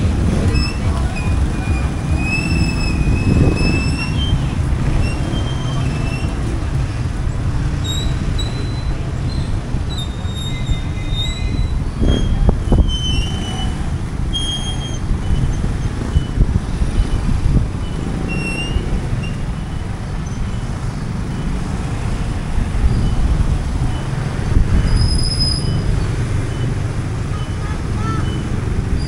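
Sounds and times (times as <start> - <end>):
high-pitched squeals: 0.0 - 6.6, 7.8 - 21.5, 22.8 - 29.0
low street rumble: 0.0 - 29.0.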